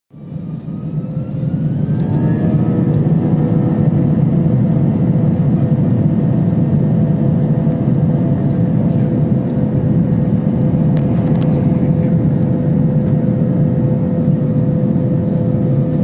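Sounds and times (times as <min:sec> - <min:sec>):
jet engines rumbling and whining: 0:00.1 - 0:16.0.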